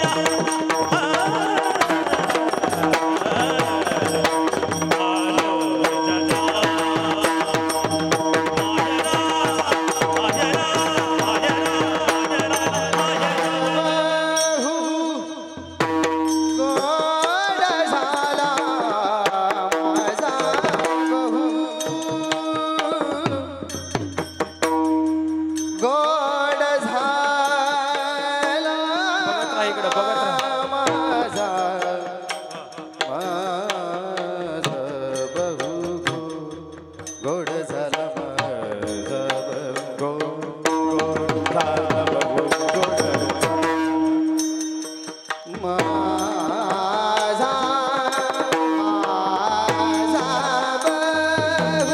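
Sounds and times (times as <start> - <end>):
person singing devotional melody: 0.0 - 51.9.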